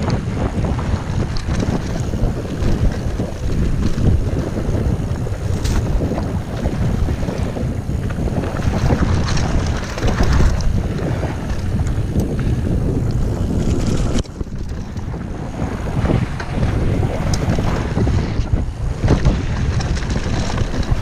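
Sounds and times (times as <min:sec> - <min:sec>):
bike clicks and rattles: 0:00.0 - 0:21.0
bike tyres rolling on gravel: 0:00.0 - 0:21.0
wind buffeting microphone: 0:00.0 - 0:21.0.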